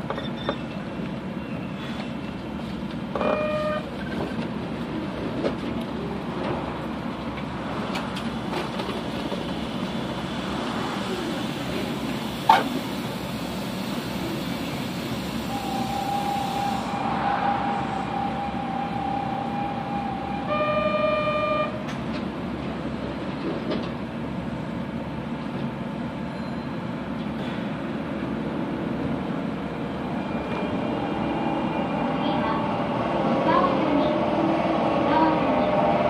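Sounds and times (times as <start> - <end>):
train running gear rumble: 0.0 - 36.0.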